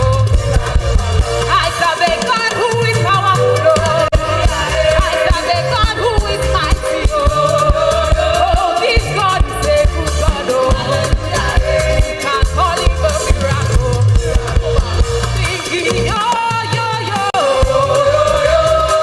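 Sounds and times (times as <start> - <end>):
live band with bass and drums: 0.0 - 19.0
person singing: 0.0 - 19.0.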